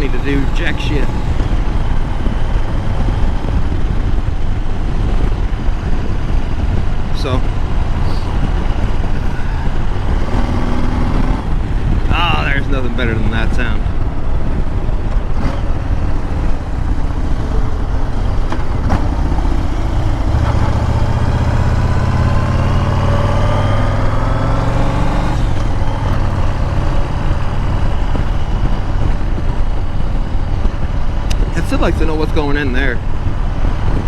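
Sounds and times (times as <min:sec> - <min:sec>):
motorcycle engine accelerating: 0:00.0 - 0:34.0
wind on microphone: 0:00.0 - 0:34.0.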